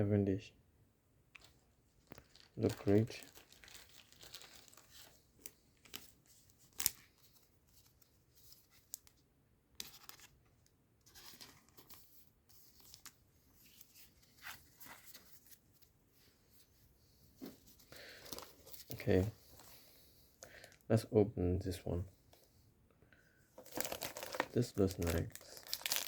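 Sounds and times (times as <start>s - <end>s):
trading cards and wrappers rustling: 1.4s - 9.2s, 9.8s - 16.7s, 17.3s - 20.9s, 23.5s - 26.0s.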